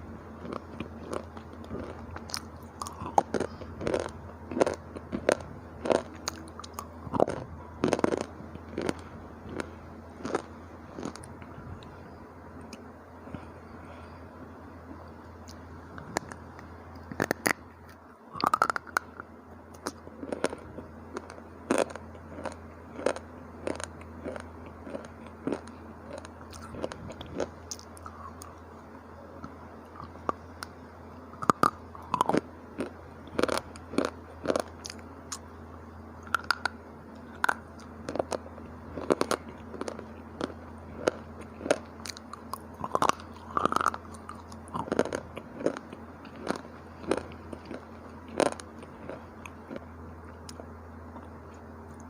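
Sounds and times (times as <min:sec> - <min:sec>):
faint low hum: 0:00.0 - 0:52.0
crunchy chewing: 0:00.3 - 0:14.3, 0:15.4 - 0:52.0.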